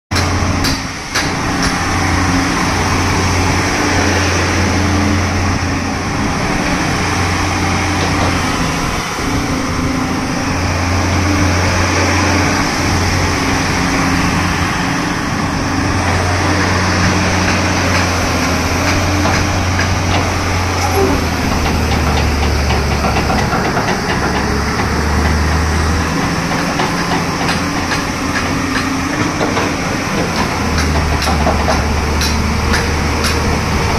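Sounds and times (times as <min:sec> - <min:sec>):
excavator diesel engine idling: 0:00.1 - 0:33.9.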